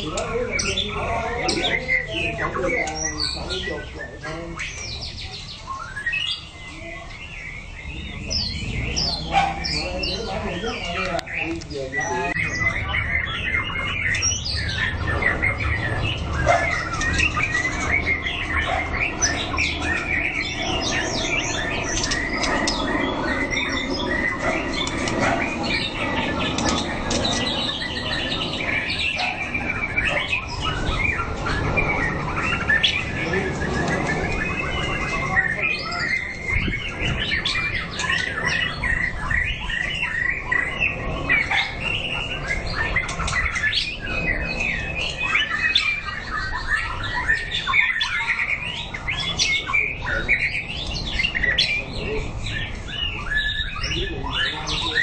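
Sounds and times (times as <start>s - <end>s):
bird singing whistled notes: 0.0s - 55.0s.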